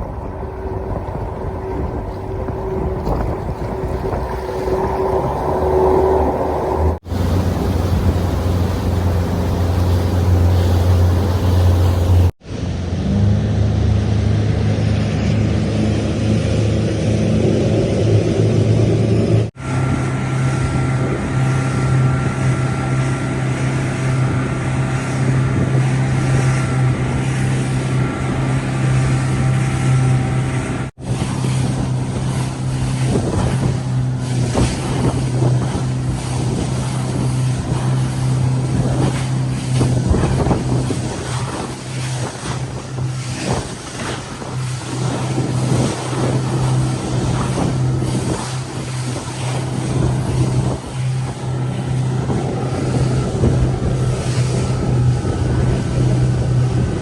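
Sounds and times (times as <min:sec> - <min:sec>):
outboard motor running: 0:00.0 - 0:12.4, 0:19.6 - 0:57.0
wind on microphone: 0:00.0 - 0:12.4, 0:19.1 - 0:57.0.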